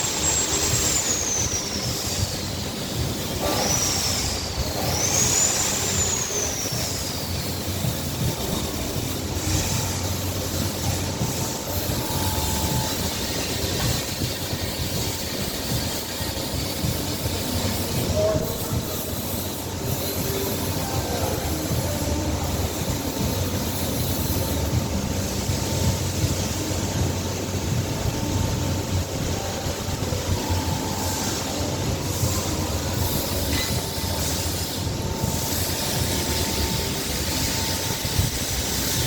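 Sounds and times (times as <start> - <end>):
steady mechanical noise: 0.0 - 39.0.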